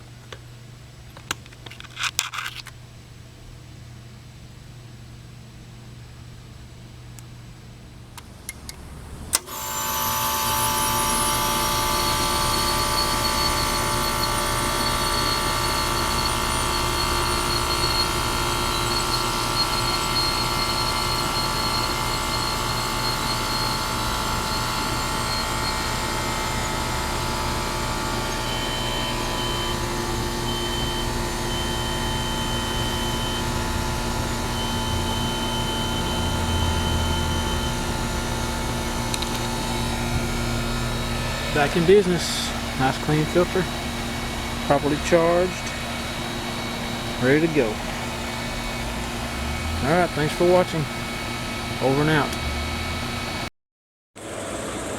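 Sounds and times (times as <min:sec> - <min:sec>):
heat pump humming: 0:03.2 - 0:53.5
faint high whine: 0:07.8 - 0:52.6.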